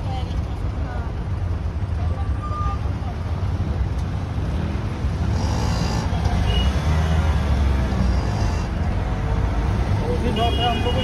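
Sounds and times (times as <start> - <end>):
idling traffic rumble: 0.0 - 11.0.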